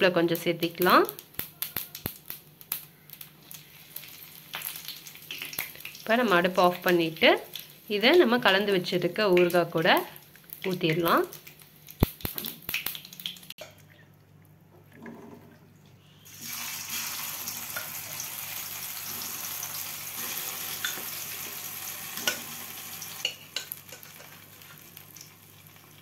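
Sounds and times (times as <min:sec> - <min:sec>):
hot oil sizzling: 0:00.1 - 0:13.6, 0:16.3 - 0:26.0.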